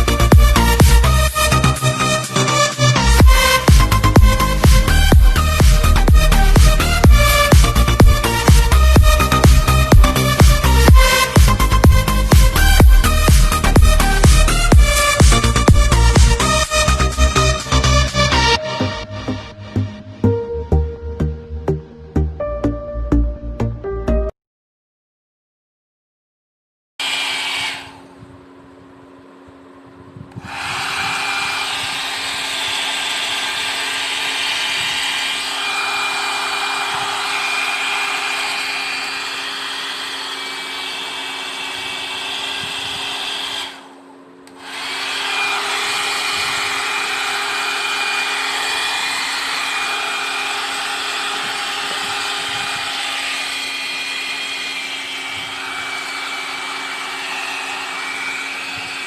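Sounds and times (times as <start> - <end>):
hair dryer running: 0.0 - 19.5, 27.0 - 59.0.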